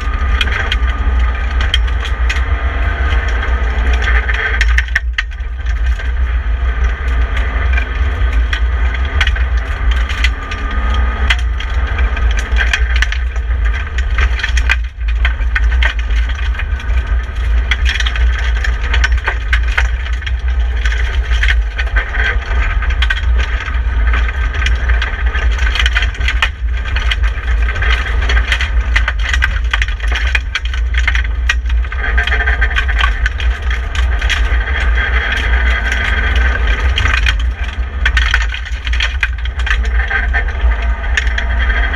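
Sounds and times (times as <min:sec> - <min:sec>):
heavy low rumble: 0:00.0 - 0:41.9
rally car engine running: 0:00.0 - 0:41.9
stones clicking and rattling: 0:00.0 - 0:41.9.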